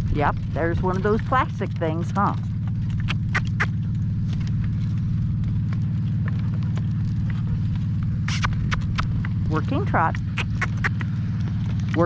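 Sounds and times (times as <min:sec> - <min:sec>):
horse hooves clicking: 0:00.0 - 0:12.0
motor droning: 0:00.0 - 0:12.0.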